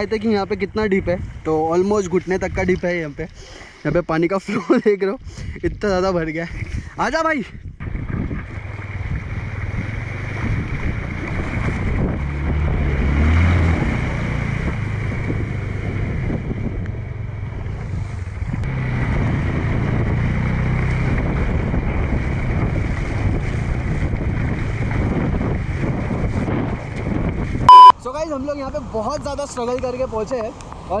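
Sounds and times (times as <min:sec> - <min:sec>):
wind buffeting microphone: 0:00.0 - 0:04.2, 0:05.2 - 0:27.7.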